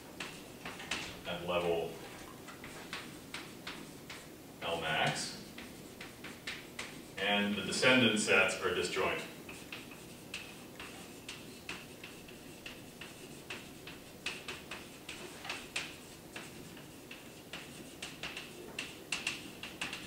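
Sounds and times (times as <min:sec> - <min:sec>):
chalk tapping and scratching: 0:00.0 - 0:20.0
faint room hum: 0:00.0 - 0:20.0.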